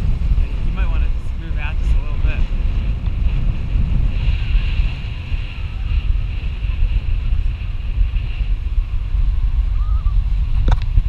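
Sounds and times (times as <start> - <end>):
breaking surf: 0.0 - 11.0
wind buffeting microphone: 0.0 - 11.0.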